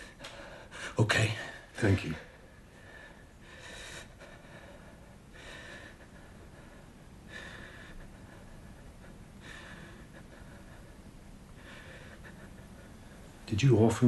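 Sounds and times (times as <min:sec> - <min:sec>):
man breathing: 0:00.0 - 0:13.5.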